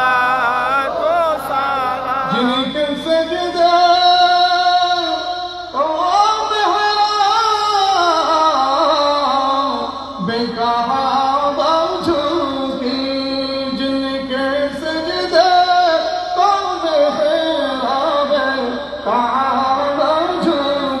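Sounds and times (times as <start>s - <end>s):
men singing devotional song: 0.0s - 21.0s.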